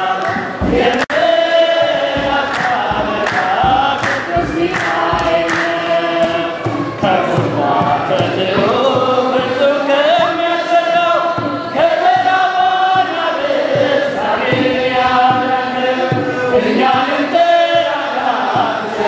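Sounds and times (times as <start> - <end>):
men chanting a hymn: 0.0 - 19.0
steady low beat: 0.5 - 19.0.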